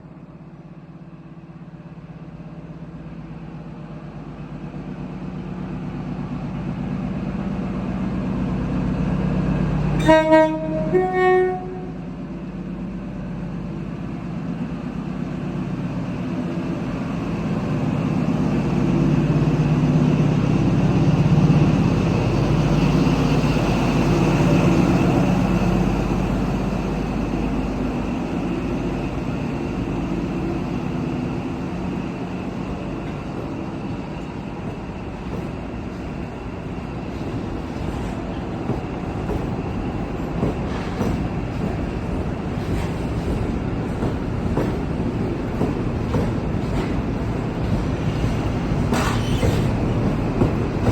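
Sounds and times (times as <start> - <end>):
diesel train engine drone: 0.0 - 50.9.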